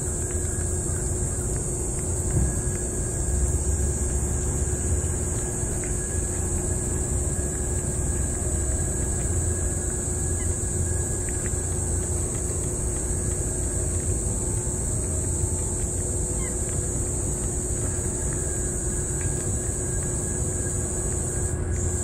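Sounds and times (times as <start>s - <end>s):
cat licking and chewing food: 0.0s - 22.0s
high steady hiss: 0.0s - 22.0s.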